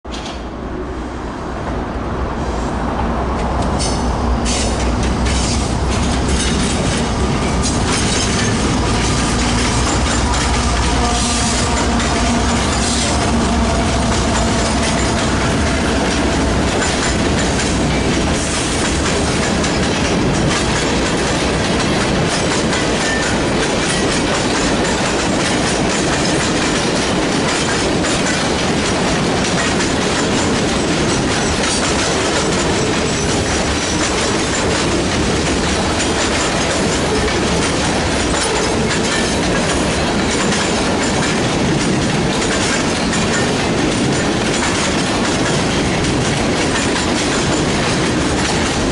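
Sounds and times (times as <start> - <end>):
freight train wheels clattering: 2.9 - 48.9.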